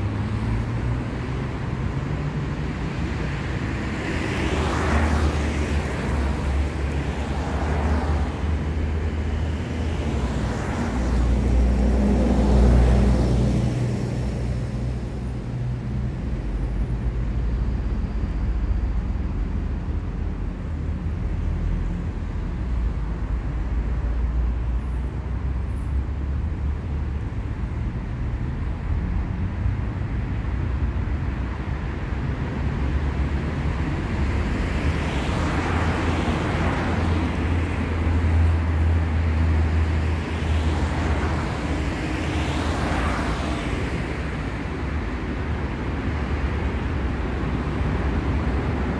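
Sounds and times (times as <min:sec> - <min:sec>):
traffic engine rumble: 0:00.0 - 0:48.9
vehicles passing close: 0:00.0 - 0:48.9.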